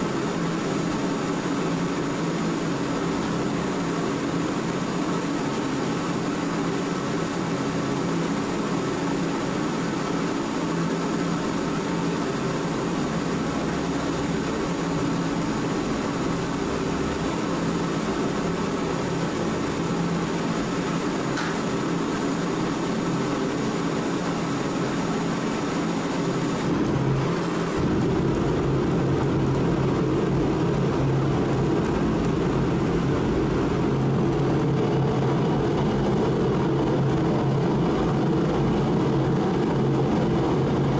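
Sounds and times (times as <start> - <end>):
constant hum: 0.0 - 40.9
heater fan and burner rush: 0.0 - 40.9.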